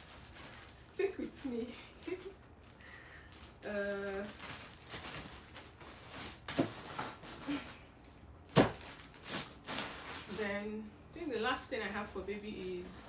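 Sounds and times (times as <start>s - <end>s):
rustling and handling of items: 0.0s - 13.0s.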